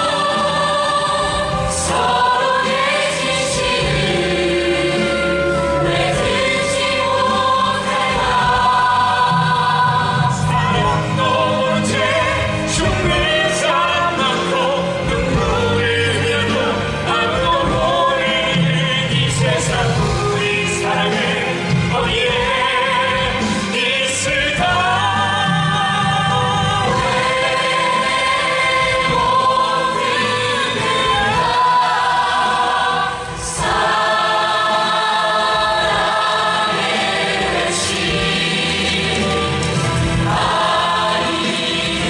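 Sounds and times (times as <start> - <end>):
ensemble singing in chorus: 0.0 - 42.0
musical accompaniment: 0.0 - 42.0.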